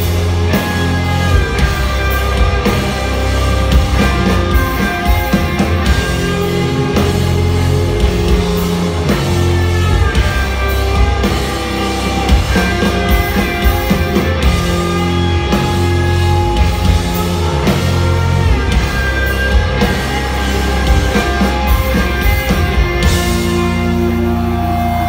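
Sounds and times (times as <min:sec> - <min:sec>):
bass guitar: 0:00.0 - 0:25.0
electric guitars: 0:00.0 - 0:25.0.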